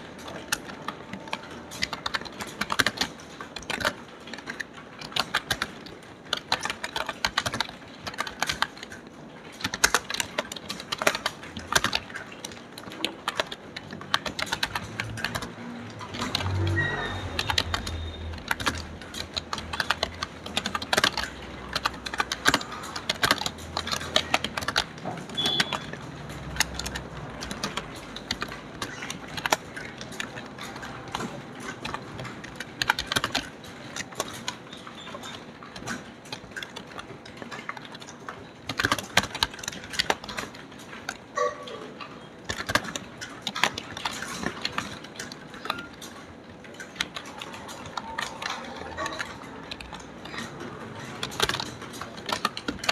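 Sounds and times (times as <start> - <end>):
typing on computer keyboard: 0.0 - 41.5, 42.4 - 52.9.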